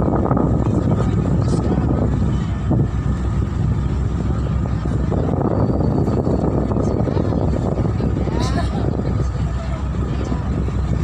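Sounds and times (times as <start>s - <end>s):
boat engine running: 0.0s - 11.0s
water rushing: 0.0s - 11.0s
wind: 0.0s - 11.0s.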